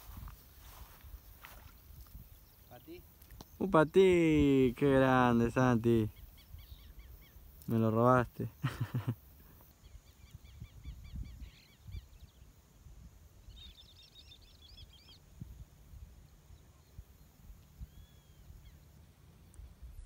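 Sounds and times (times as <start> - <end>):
bird chirping: 0.1 - 8.8, 9.5 - 12.5, 13.4 - 15.4, 16.4 - 19.0.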